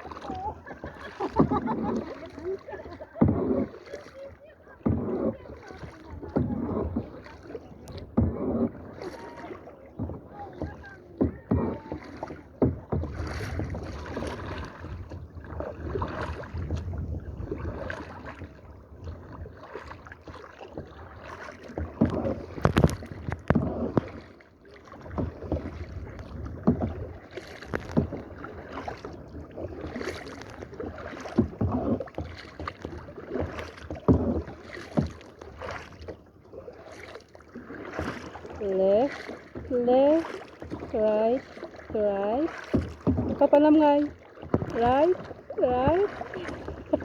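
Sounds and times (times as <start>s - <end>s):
kayak paddles splashing in water: 0.0s - 47.0s
paddle knock: 0.0s - 47.0s.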